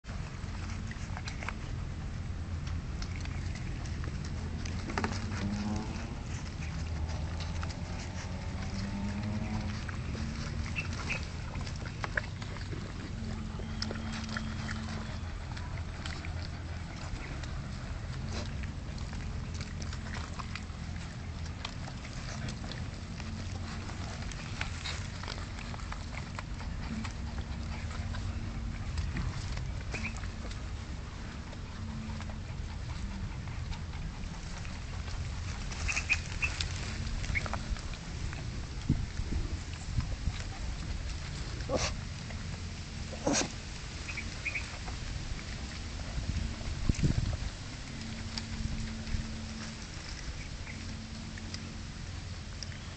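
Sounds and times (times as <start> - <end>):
puppies moving among rocks: 0.0 - 52.9
steady low hum: 0.0 - 52.9
steady low rumble: 0.0 - 52.9.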